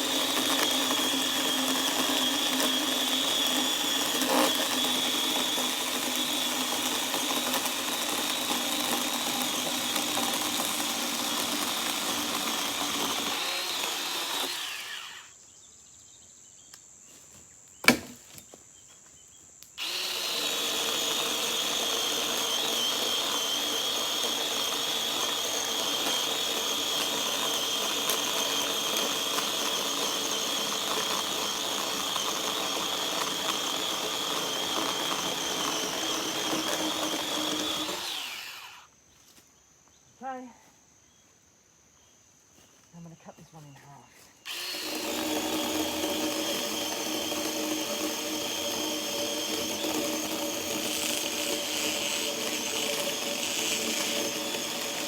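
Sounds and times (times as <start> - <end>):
chainsaw cutting wood: 0.0 - 15.4, 17.8 - 18.4, 19.8 - 38.9, 44.4 - 55.0.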